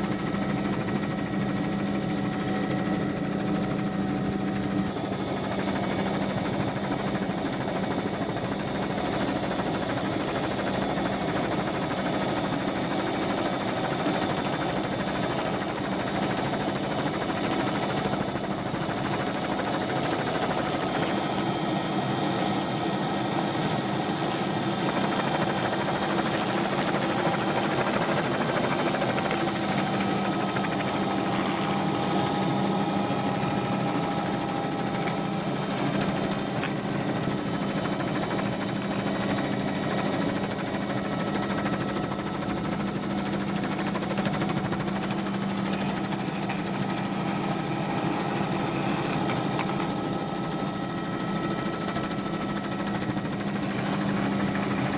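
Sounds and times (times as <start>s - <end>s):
helicopter drone from inside: 0.0s - 54.9s.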